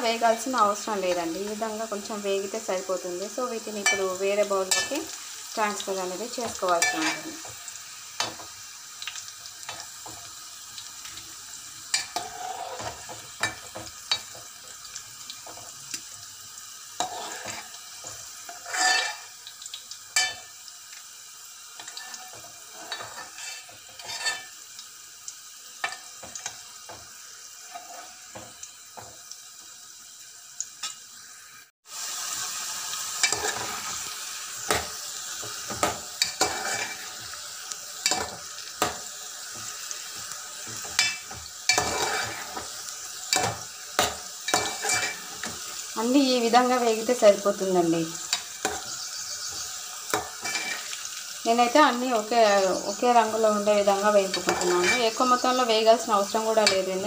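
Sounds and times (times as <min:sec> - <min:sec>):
vegetables deep-frying in oil: 0:00.0 - 0:57.0.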